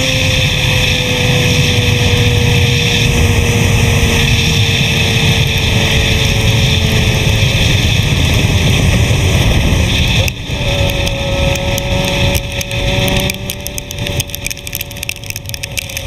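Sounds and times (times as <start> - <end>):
motorcycle engine: 0.0 - 16.0
wind rush on microphone: 0.0 - 16.0.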